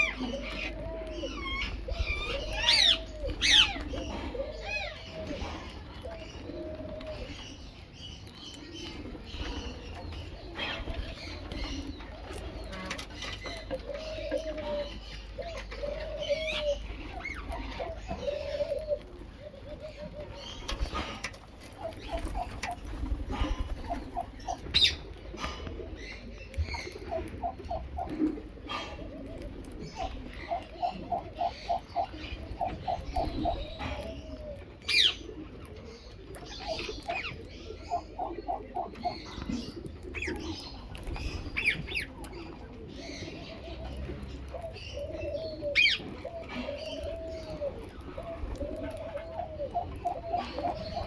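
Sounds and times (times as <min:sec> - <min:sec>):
low cooing bird call: 0:00.0 - 0:51.0.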